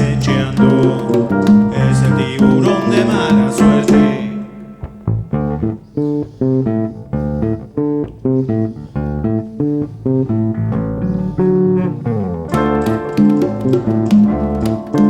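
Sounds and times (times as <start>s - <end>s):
bass line: 0.0s - 15.0s
plucked guitar notes: 0.0s - 15.0s.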